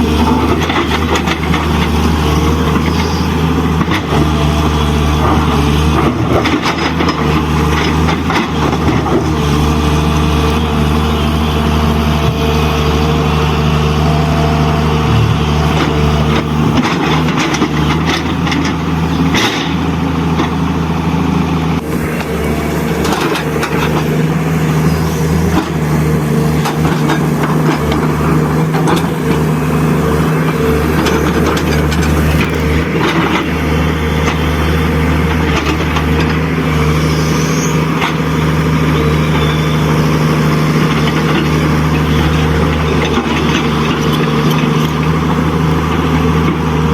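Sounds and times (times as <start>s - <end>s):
diesel truck engine humming: 0.0s - 46.9s.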